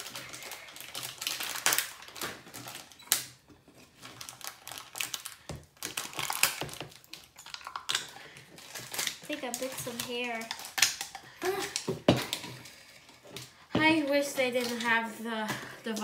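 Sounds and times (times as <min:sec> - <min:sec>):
foil wrapper crinkling: 0:00.0 - 0:15.2.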